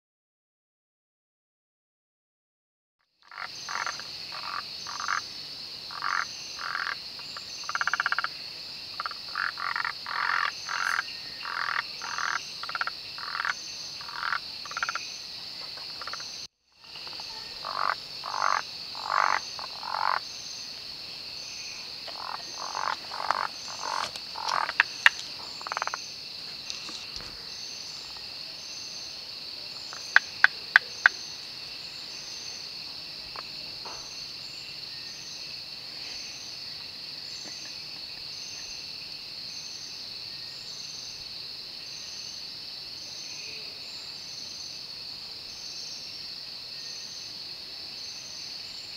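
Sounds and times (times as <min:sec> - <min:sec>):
frogs croaking: 0:03.0 - 0:48.9
high insect drone: 0:03.2 - 0:48.9.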